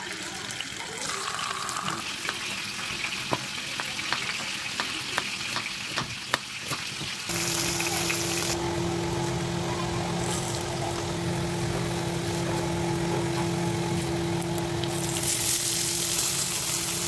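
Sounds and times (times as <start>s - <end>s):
fish frying in oil sizzling: 0.1s - 12.3s, 13.5s - 17.0s.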